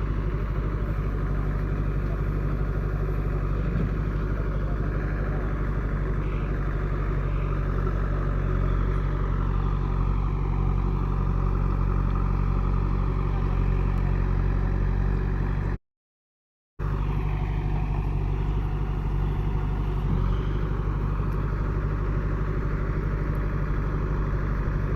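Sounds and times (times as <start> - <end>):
heavy diesel engine running: 0.0 - 15.8, 16.8 - 24.9.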